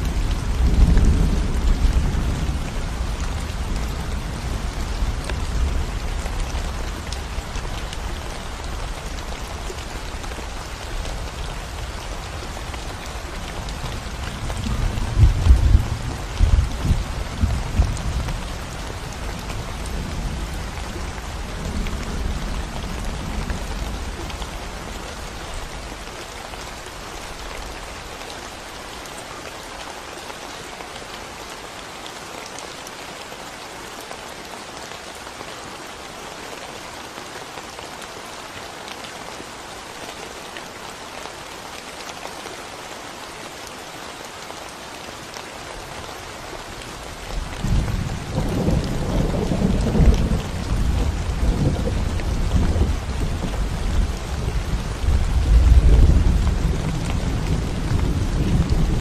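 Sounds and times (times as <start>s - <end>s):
rain on concrete road: 0.0s - 59.0s.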